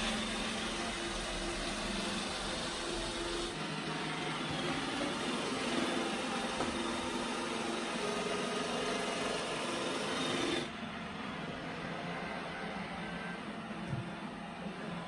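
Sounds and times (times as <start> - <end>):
robot vacuum humming: 0.0 - 15.0.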